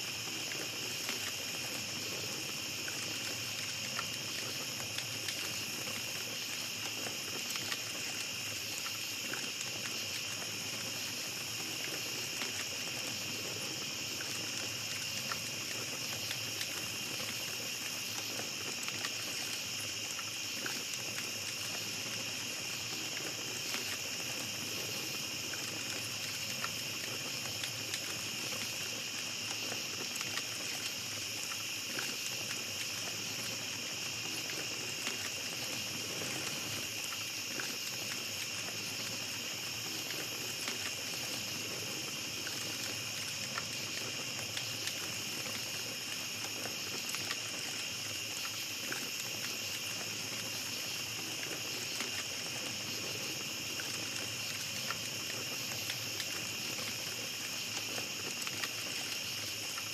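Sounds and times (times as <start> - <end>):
campfire crackling: 0.0 - 59.9
night insects chirring: 0.0 - 59.9.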